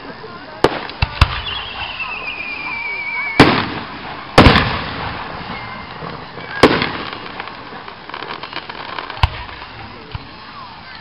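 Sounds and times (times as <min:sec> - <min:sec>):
faint firework crackling: 0:00.0 - 0:11.0
fireworks bangs: 0:00.0 - 0:11.0.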